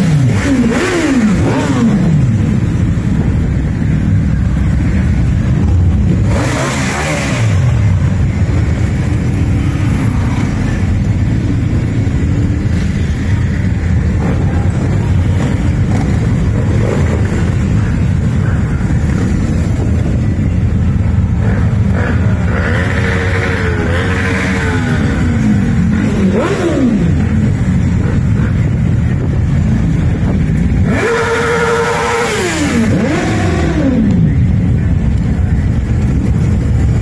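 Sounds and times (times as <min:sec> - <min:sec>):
motorcycles rumbling past: 0:00.0 - 0:37.0.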